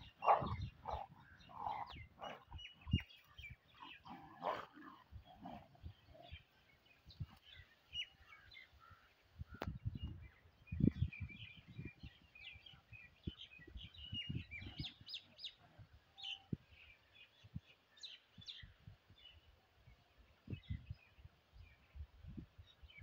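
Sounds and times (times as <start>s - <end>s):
small birds chirping: 0.0s - 19.6s.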